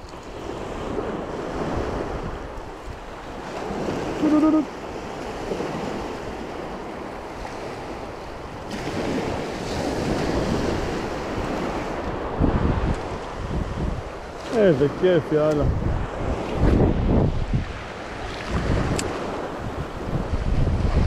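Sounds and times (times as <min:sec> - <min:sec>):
surf washing on beach: 0:00.0 - 0:21.0
wind buffeting microphone: 0:00.0 - 0:21.0.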